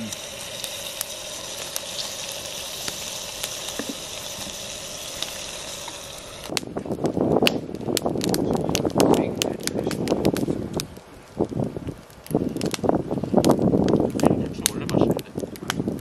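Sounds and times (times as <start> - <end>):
campfire crackling and popping: 0.0 - 16.0
campfire hissing: 0.0 - 16.0.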